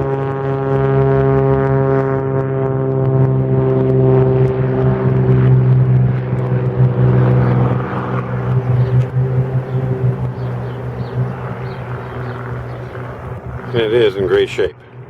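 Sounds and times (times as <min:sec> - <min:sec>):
propeller airplane engine drone: 0:00.0 - 0:15.0.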